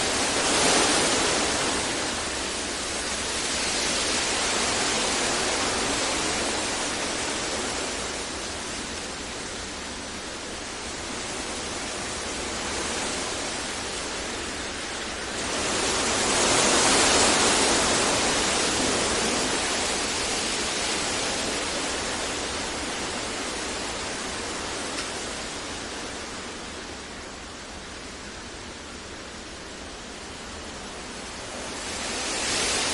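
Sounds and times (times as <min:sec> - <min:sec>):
steady hiss-like noise: 0:00.0 - 0:32.9.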